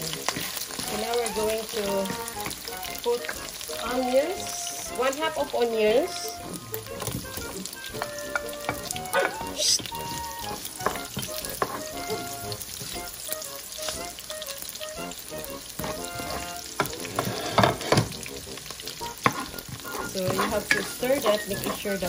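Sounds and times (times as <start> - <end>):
onions sizzling in fat: 0.0 - 22.0
spatula stirring in pan: 0.0 - 22.0.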